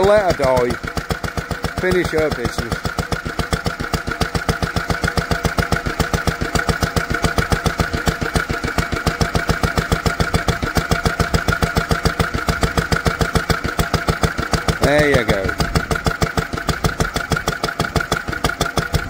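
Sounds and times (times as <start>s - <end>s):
stationary petrol engine running: 0.0s - 19.0s.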